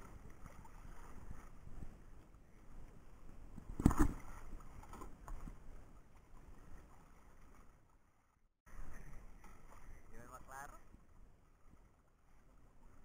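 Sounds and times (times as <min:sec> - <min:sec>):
water lapping around boat: 0:00.0 - 0:13.0.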